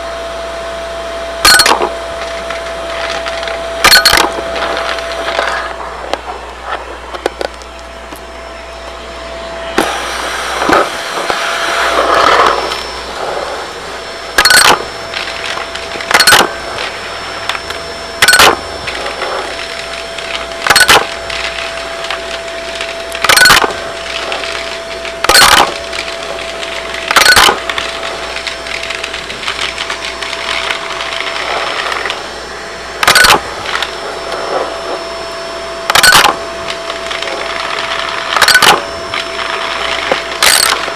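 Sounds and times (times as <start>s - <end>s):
faint motor whine: 0.0s - 40.9s
vacuum cleaner running: 0.0s - 40.9s.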